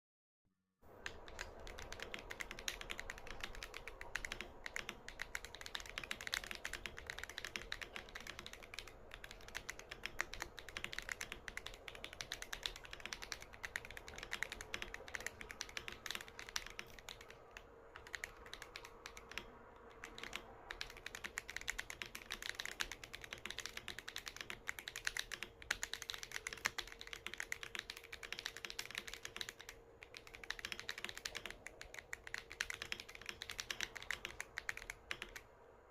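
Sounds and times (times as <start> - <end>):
mechanical keyboard typing: 0.9 - 35.6.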